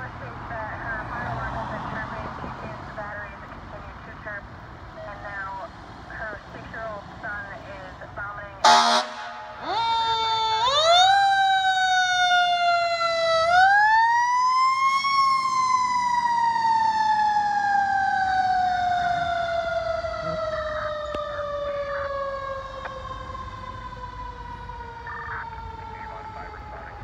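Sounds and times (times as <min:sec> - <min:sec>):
fire engine mechanical siren: 0:05.0 - 0:27.0.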